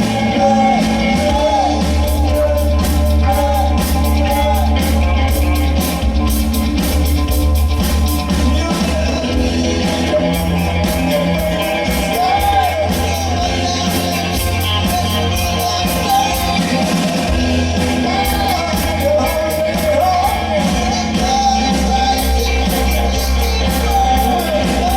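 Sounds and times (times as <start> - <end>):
person singing: 0.0 - 6.4, 8.2 - 24.9
cymbals keeping beat: 0.0 - 24.9
live rock band playing: 0.0 - 24.9.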